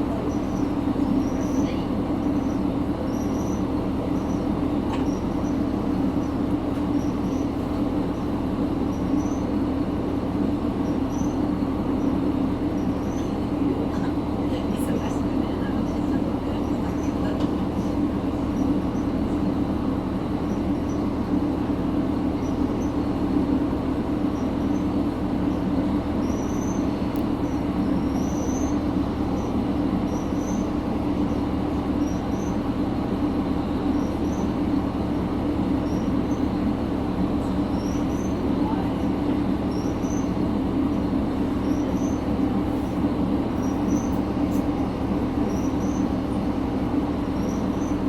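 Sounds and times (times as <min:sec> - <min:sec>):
railcar running rumble: 0:00.0 - 0:48.0.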